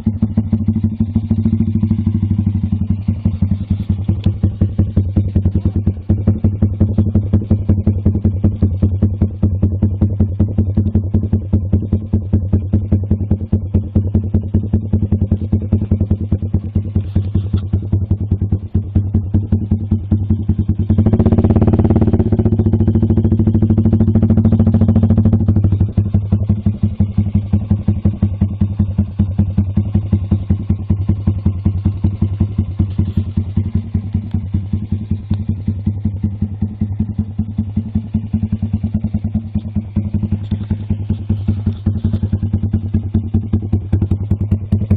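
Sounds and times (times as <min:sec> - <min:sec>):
single-cylinder engine pulsing exhaust: 0:00.0 - 0:44.9.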